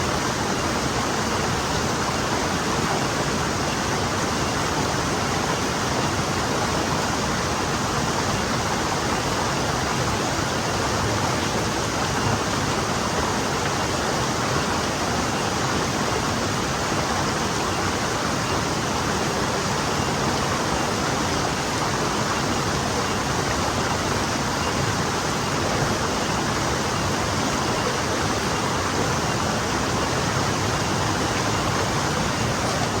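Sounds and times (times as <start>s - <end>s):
stream flowing over rocks: 0.0s - 33.0s.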